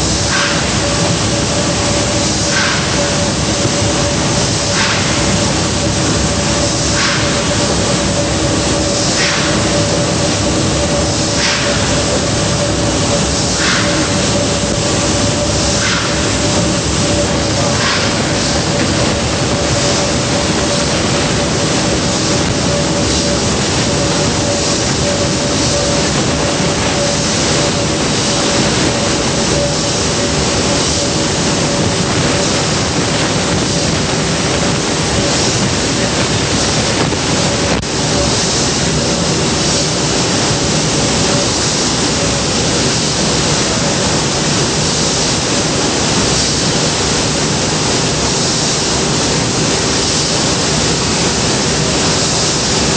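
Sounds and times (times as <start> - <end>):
large gas engines roaring: 0.0 - 52.9.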